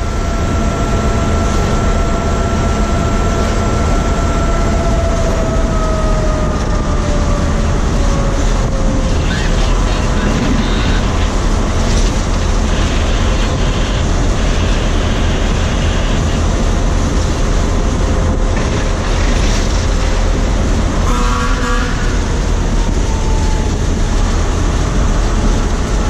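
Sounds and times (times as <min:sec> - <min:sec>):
locomotive engine running: 0:00.0 - 0:26.0.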